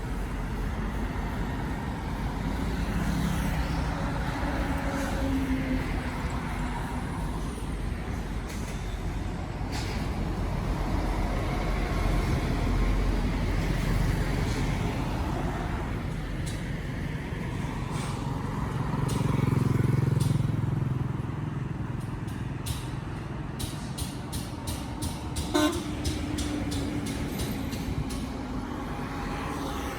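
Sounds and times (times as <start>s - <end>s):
highway traffic rumble: 0.0s - 29.9s.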